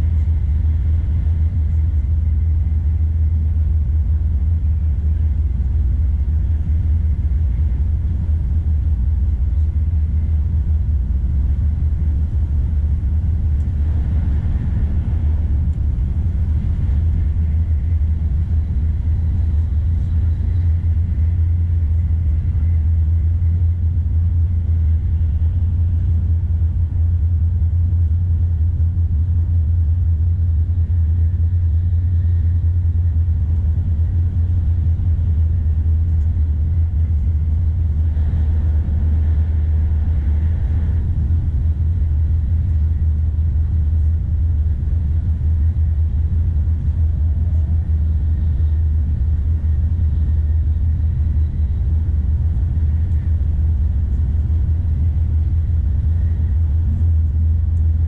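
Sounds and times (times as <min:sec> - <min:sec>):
train rumble inside passenger car: 0:00.0 - 0:58.0.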